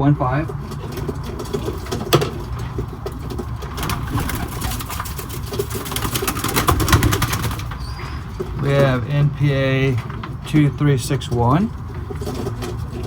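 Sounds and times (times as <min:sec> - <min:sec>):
pigeons cooing: 0:00.0 - 0:13.0
wing flaps and rustles: 0:00.0 - 0:13.0.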